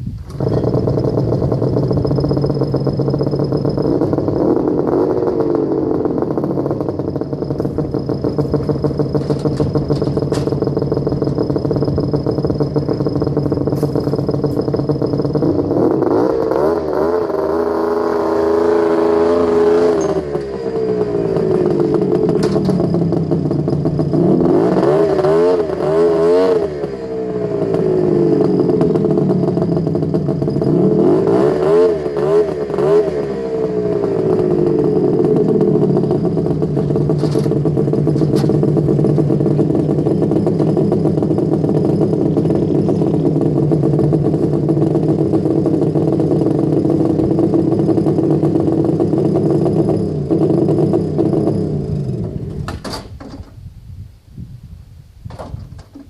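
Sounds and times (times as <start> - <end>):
snowmobile engine revving: 0.0 - 52.6.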